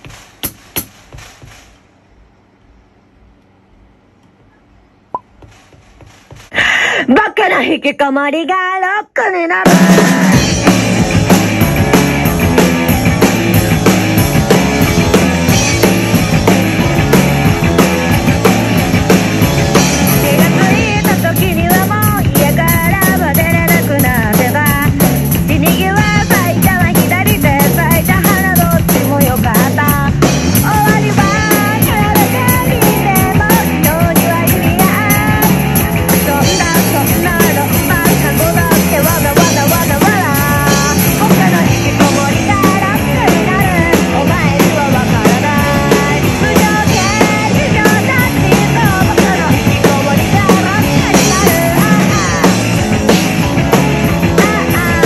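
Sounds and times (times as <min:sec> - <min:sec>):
acoustic drum kit playing: 0:00.0 - 0:02.0, 0:05.1 - 0:07.0, 0:09.6 - 0:55.0
rock song with vocals: 0:09.2 - 0:55.0.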